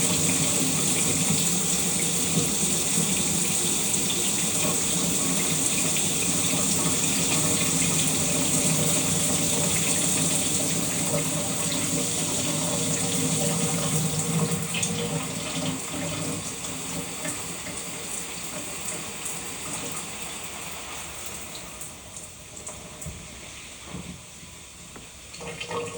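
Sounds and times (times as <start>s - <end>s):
shower water running: 0.0s - 25.9s.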